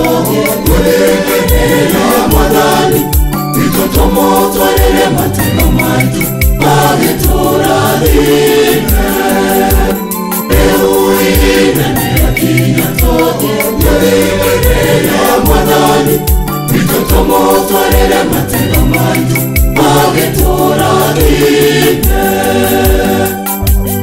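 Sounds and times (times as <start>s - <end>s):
choir singing gospel in harmony: 0.0s - 24.0s
quick ticking percussion: 0.0s - 24.0s.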